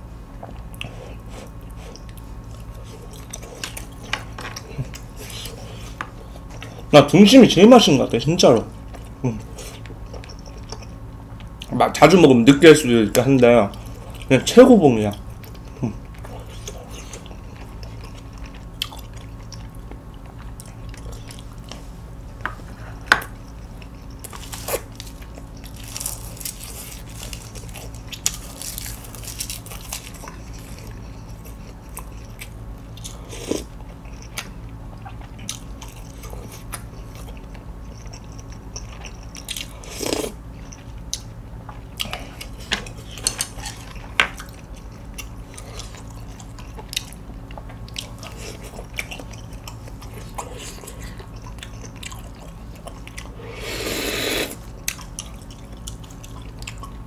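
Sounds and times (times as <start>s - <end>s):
steady low hum: 0.0s - 57.0s
person chewing food: 0.4s - 6.9s, 8.6s - 11.8s, 13.7s - 14.4s, 15.1s - 57.0s.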